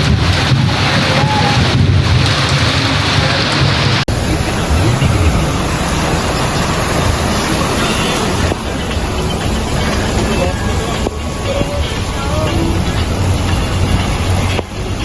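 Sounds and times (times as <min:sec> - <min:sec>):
rushing rain and water: 0:00.0 - 0:15.0
wind buffeting microphone: 0:00.0 - 0:15.0.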